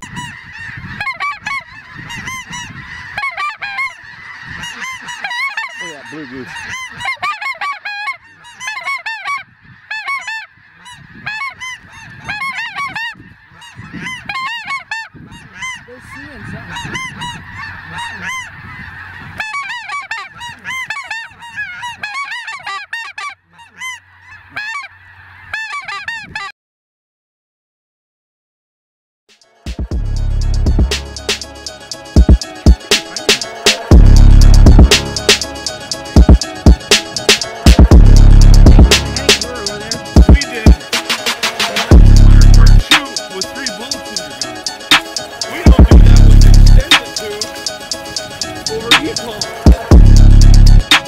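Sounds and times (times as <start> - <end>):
flock of geese honking: 0.0 - 26.5, 30.2 - 51.0.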